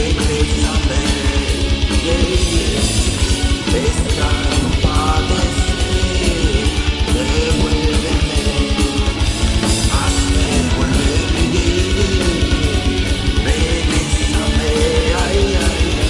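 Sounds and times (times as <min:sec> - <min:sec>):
heavy metal band playing: 0:00.0 - 0:16.0
rapid kick drum: 0:00.0 - 0:16.0.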